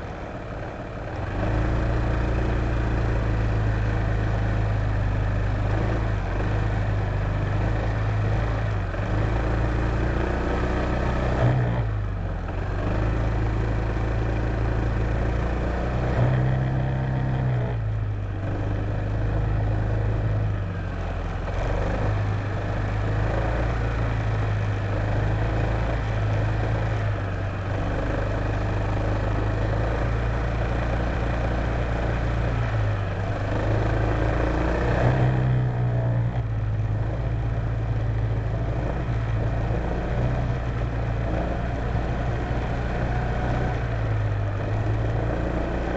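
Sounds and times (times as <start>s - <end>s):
scooter engine running: 0.0s - 45.9s
wind and road noise: 0.0s - 45.9s.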